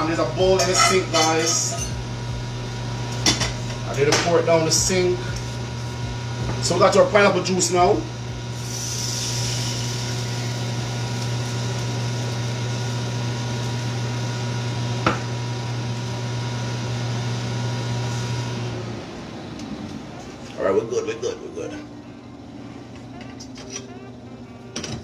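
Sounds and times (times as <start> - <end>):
range hood fan humming: 0.0 - 25.0.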